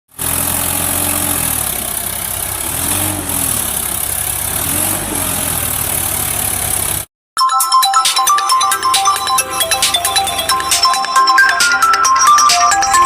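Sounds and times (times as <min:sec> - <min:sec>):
tractor diesel engine revving: 0:00.1 - 0:07.1, 0:08.8 - 0:13.0.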